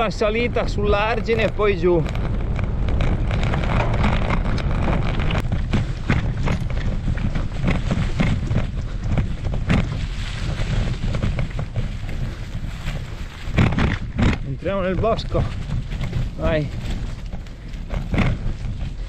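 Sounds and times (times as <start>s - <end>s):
bike knocks and rattles: 0.0s - 19.0s
tyres crunching on dirt: 0.0s - 19.0s
wind buffeting microphone: 0.0s - 19.0s.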